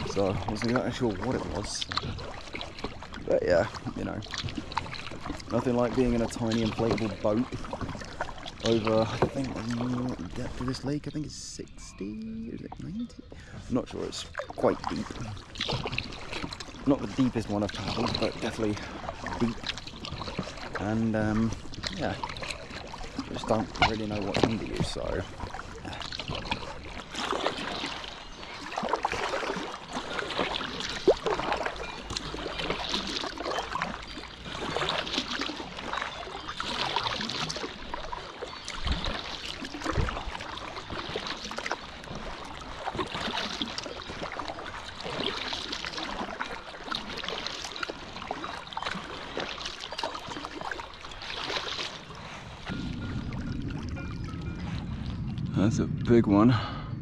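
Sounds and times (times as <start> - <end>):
paddle swishing and splashing water: 0.0 - 55.5.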